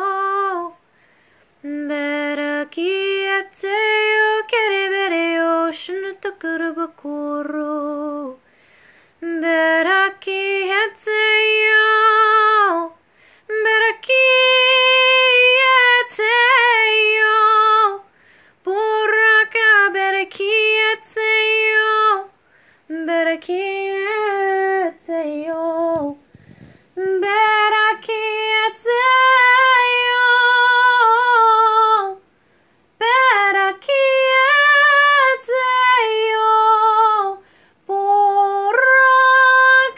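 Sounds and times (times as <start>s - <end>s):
woman singing unaccompanied: 0.0s - 0.9s, 1.6s - 8.5s, 9.2s - 26.3s, 26.9s - 32.3s, 33.0s - 39.9s.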